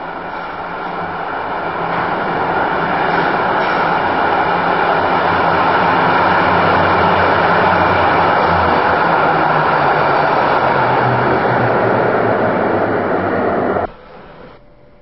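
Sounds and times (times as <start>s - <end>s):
tram rumbling in tunnel: 0.0s - 15.0s.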